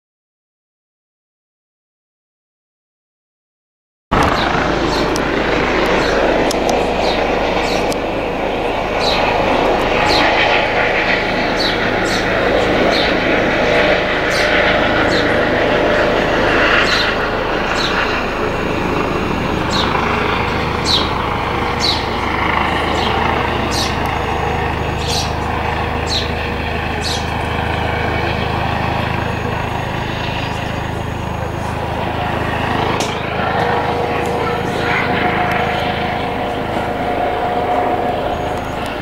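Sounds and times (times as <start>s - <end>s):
helicopter rotor drone: 4.1s - 39.0s.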